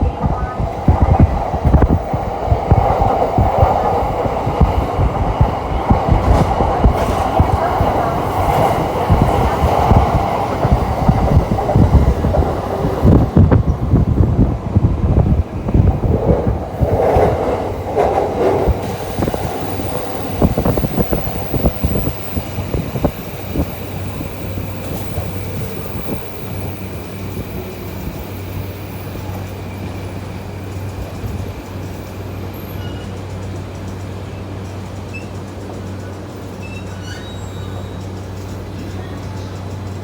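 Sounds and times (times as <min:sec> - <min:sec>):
train passing with wheel clatter: 0:00.0 - 0:40.0.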